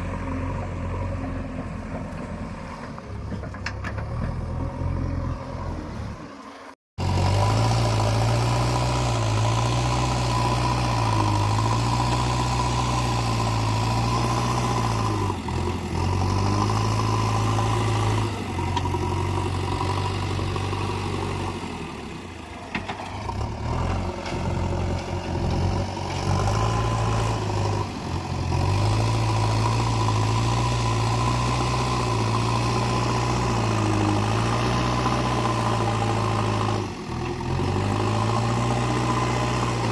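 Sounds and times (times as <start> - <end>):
diesel engine running: 7.0 - 39.9.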